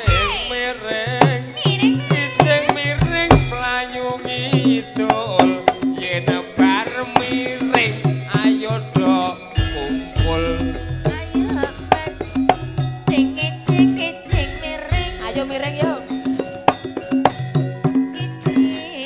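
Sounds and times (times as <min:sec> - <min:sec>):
wavering melodic line: 0:00.0 - 0:19.0.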